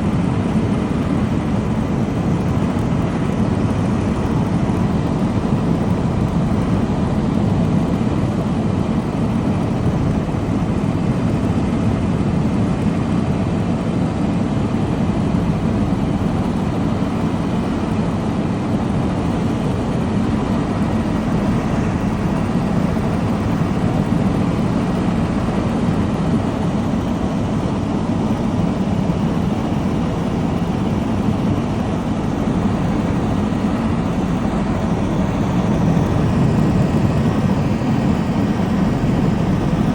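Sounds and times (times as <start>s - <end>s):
helicopter rotor drone: 0.0s - 39.9s.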